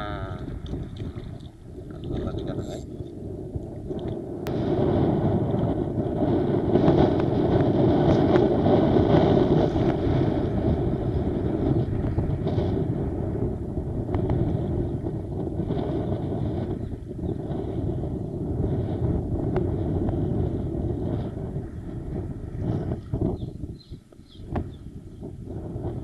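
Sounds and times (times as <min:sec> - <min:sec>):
choppy sea water: 0:00.0 - 0:26.0
wind buffeting microphone: 0:00.0 - 0:26.0.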